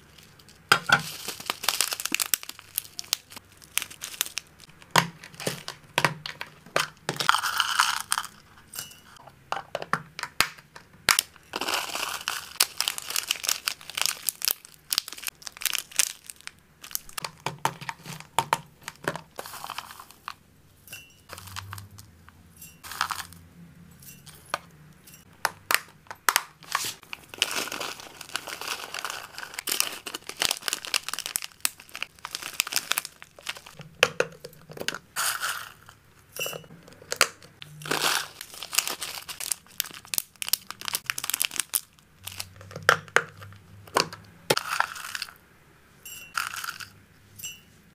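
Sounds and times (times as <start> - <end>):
plastic bags crinkling: 0.0 - 8.5, 11.1 - 20.4, 21.3 - 22.1, 22.8 - 23.4, 25.4 - 45.4
dry food rustling and rattling: 0.0 - 9.9, 11.1 - 20.4, 21.3 - 22.1, 22.8 - 23.4, 26.3 - 45.4, 46.3 - 46.9.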